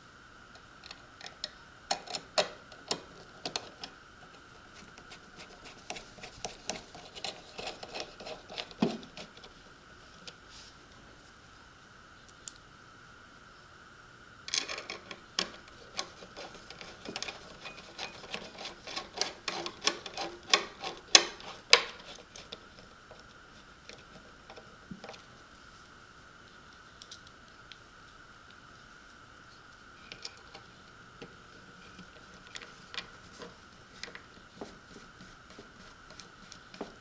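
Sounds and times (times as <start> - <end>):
faint high hum: 0.0 - 37.0.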